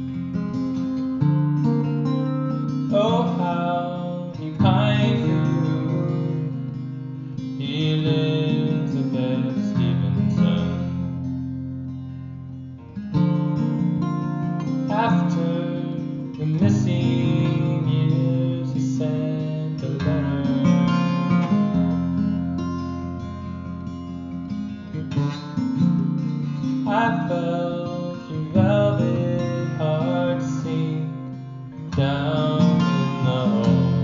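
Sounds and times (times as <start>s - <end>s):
song with strummed acoustic guitar: 0.0s - 34.0s.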